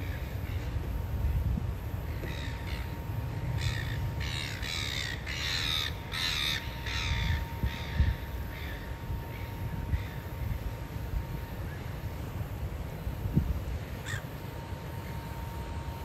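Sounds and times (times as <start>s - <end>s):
wind rumble on microphone: 0.0s - 13.9s.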